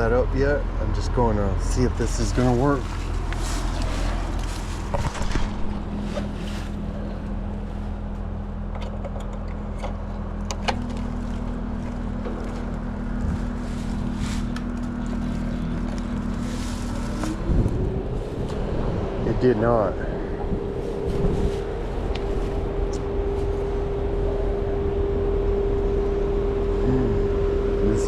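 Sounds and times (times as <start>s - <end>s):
air conditioner unit humming: 0.0s - 28.0s.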